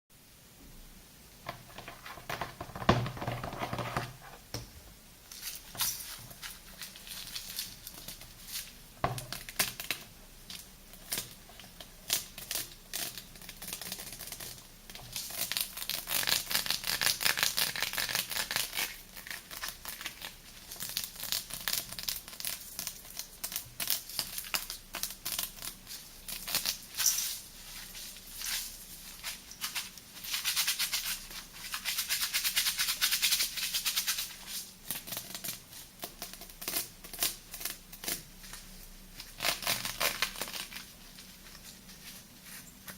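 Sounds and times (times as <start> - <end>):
crackling of salt and soap lather: 5.2 - 42.9.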